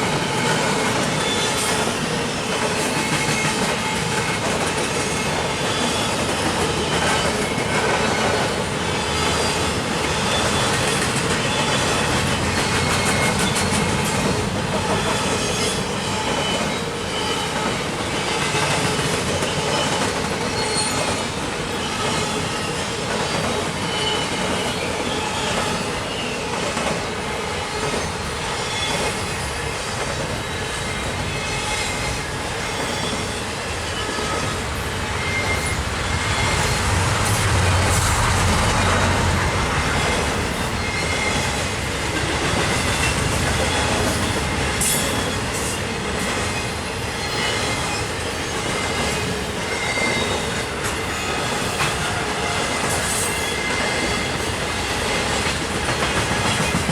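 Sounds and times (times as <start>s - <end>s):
freight train wheels rumbling: 0.0s - 56.9s
high wheel squeals: 5.0s - 14.2s, 14.8s - 26.6s, 27.6s - 55.2s.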